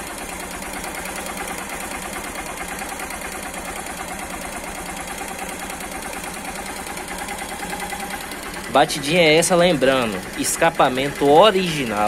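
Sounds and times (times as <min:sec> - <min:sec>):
light rhythmic engine tapping: 0:00.0 - 0:12.0
motorcycle engine idling: 0:00.0 - 0:12.0.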